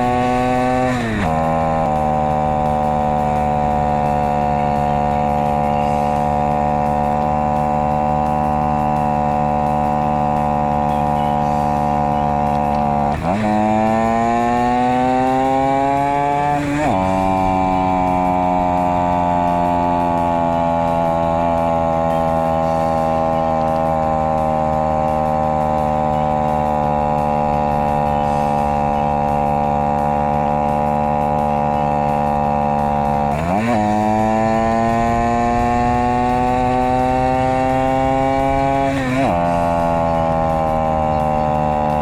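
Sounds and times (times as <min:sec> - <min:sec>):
small motorcycle engine pulling uphill: 0:00.0 - 0:42.0.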